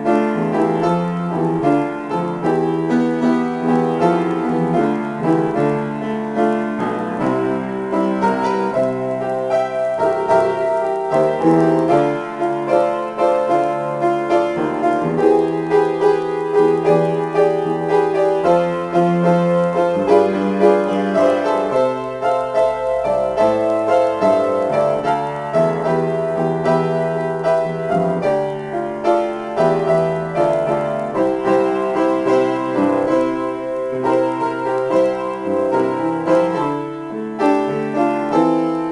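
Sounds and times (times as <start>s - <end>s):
grand piano playing: 0.0s - 38.9s.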